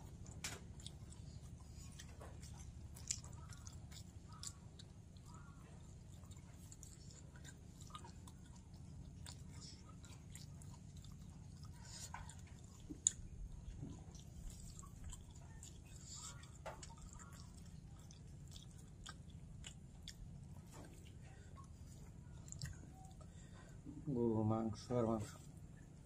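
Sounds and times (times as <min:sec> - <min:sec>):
person chewing food: 0:00.0 - 0:23.8
low steady hum: 0:00.0 - 0:26.0.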